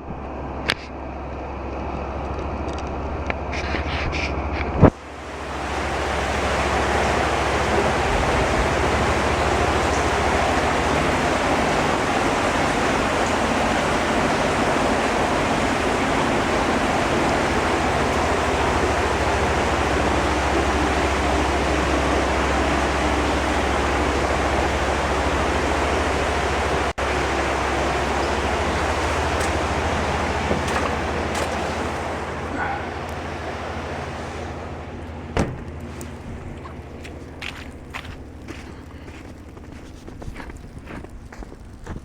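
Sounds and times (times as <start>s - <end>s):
low hum: 0.0s - 42.0s
flowing water rushing: 4.9s - 41.0s.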